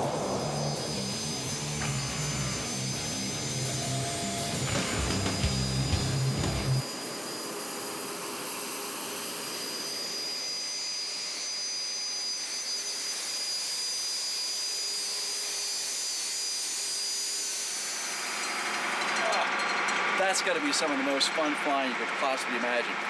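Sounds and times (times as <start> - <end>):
jet engine running with whine: 0.0 - 23.0.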